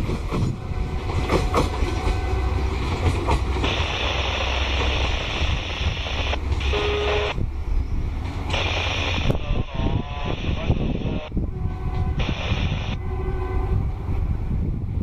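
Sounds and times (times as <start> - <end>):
freight train wagons rumbling: 0.0 - 15.0.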